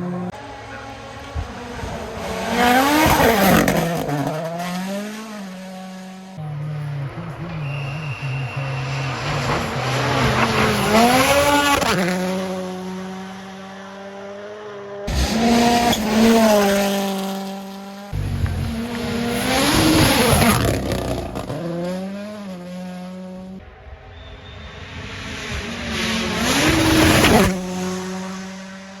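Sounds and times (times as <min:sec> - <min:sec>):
rally cars passing at speed: 0:00.0 - 0:29.0.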